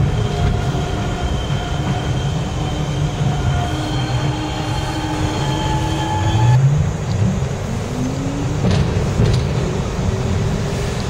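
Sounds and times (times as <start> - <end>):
thin train whine: 0.0 - 11.0
train wheels rumbling on rails: 0.0 - 11.0.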